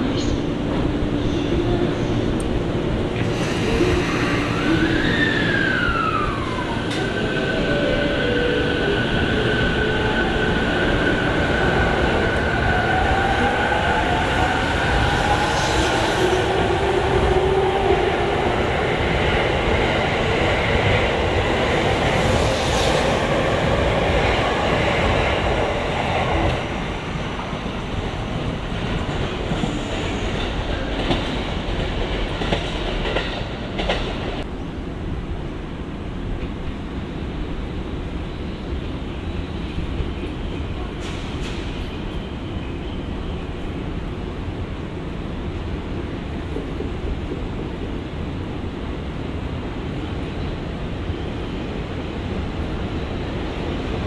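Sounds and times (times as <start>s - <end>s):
train wheels rumbling on rails: 0.0s - 34.6s, 38.8s - 54.0s.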